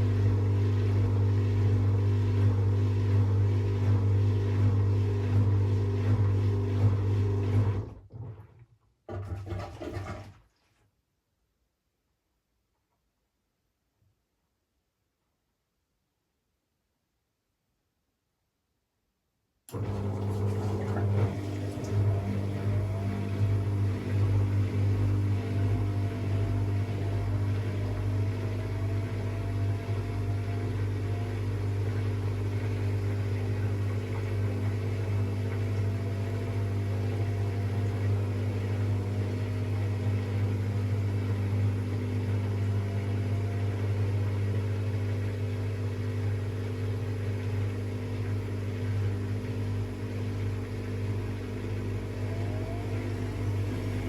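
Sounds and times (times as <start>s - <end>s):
washing machine motor hum: 0.0s - 10.3s, 19.7s - 54.0s.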